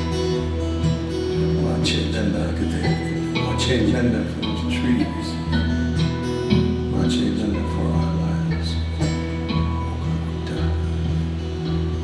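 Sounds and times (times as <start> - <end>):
acoustic guitar chords: 0.0 - 12.0
low bass notes: 0.0 - 12.0.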